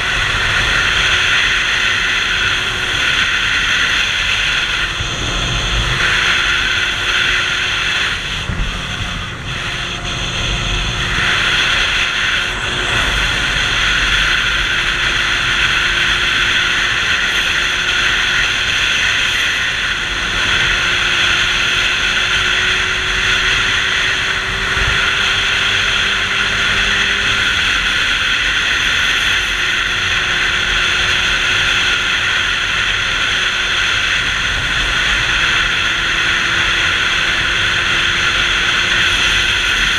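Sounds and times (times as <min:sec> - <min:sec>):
motorcycle engine hum: 0:00.0 - 0:39.9
wind rushing over microphone: 0:00.0 - 0:39.9.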